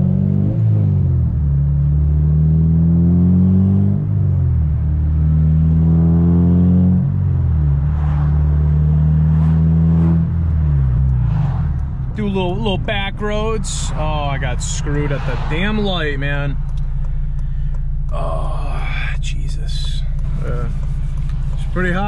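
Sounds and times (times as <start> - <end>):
car engine revving through gears: 0.0 - 22.0.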